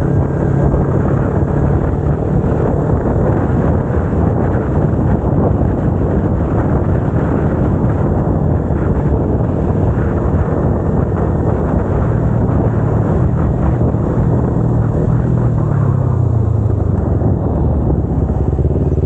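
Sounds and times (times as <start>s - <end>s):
motorcycle engine cruising: 0.0s - 19.0s
wind noise on microphone: 0.0s - 19.0s.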